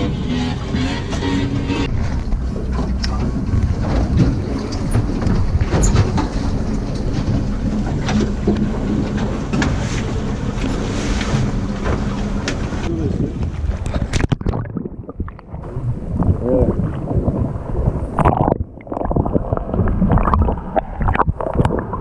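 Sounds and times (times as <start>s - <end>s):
wind rumbling on microphone: 1.8s - 22.0s.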